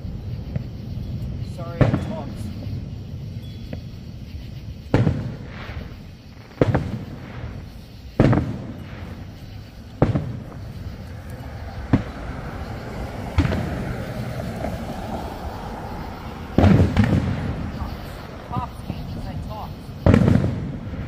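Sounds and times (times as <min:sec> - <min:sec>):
firework shells bursting: 0:00.0 - 0:21.0.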